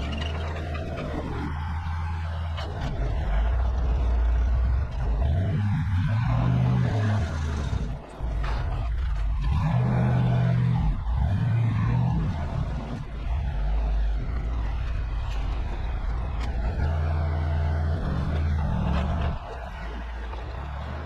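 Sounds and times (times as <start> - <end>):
road noise: 0.0 - 21.0
truck engine: 0.0 - 21.0.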